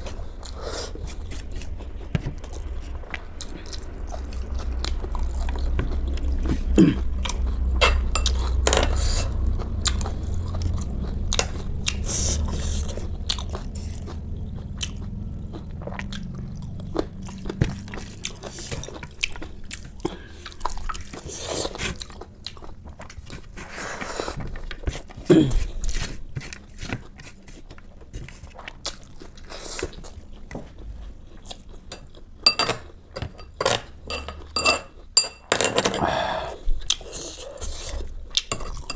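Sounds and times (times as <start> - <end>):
person chewing and crunching food: 0.0 - 38.9.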